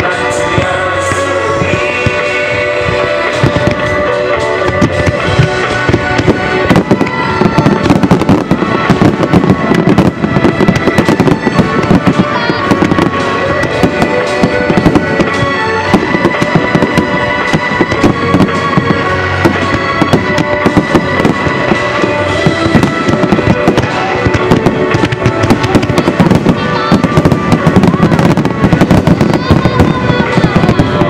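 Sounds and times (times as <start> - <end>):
fireworks bangs and crackles: 0.0 - 31.0
music with held notes: 0.0 - 31.0.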